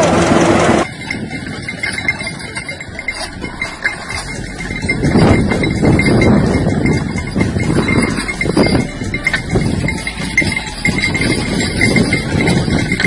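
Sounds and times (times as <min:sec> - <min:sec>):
scraping on tilled ground: 0:00.0 - 0:13.0
cow hooves clopping: 0:00.8 - 0:13.0.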